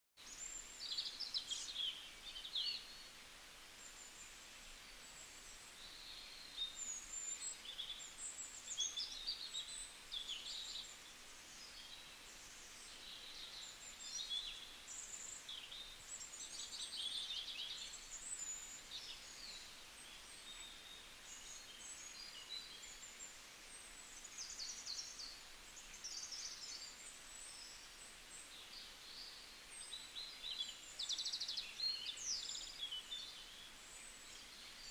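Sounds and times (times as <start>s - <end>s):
small birds chirping: 0.2s - 34.9s
steady background hiss: 0.2s - 34.9s.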